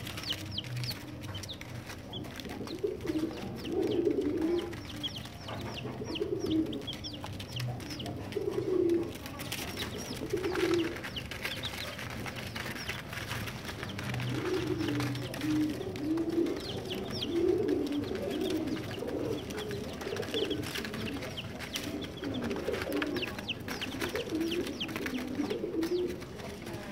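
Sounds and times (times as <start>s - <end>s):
baby chicks peeping: 0.0s - 26.9s.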